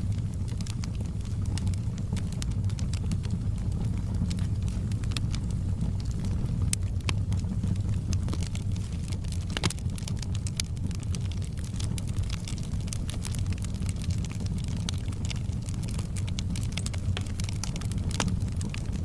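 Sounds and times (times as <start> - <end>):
fire pops and snaps: 0.0 - 19.0
low rumble of flames: 0.0 - 19.0.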